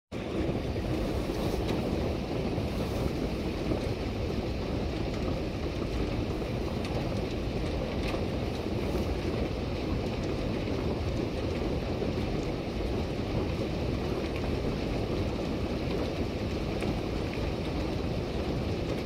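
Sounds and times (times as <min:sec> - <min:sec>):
steady rain: 0:00.1 - 0:19.0
wind: 0:00.1 - 0:19.0.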